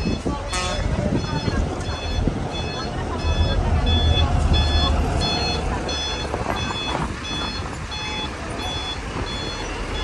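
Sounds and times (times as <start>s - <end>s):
truck engine rumble: 0.0s - 10.0s
truck reversing alarm beeping: 0.0s - 10.0s.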